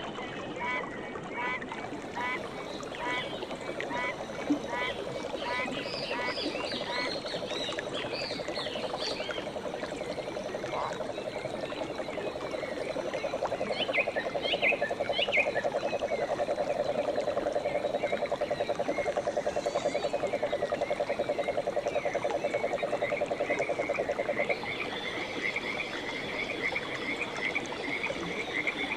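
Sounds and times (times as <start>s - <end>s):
frogs fast-pulsed trill: 2.2s - 28.9s
higher chirping frog calls: 2.2s - 28.9s.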